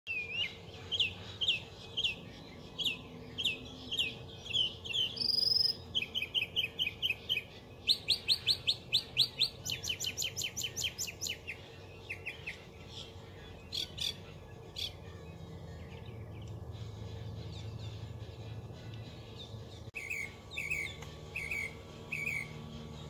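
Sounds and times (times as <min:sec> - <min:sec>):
mockingbird singing: 0:00.1 - 0:23.0.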